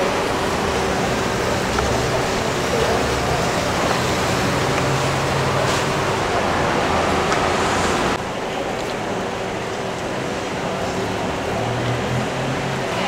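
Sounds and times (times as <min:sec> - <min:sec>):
market background noise: 0:00.0 - 0:13.0.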